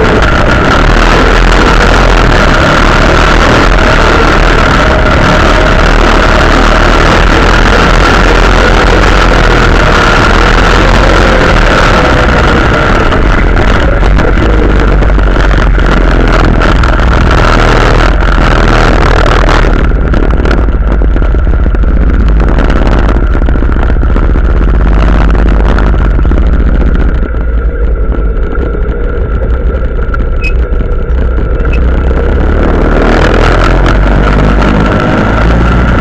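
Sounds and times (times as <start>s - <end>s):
quad bike engine running: 0.0s - 36.0s
wind rushing over microphone: 0.0s - 36.0s.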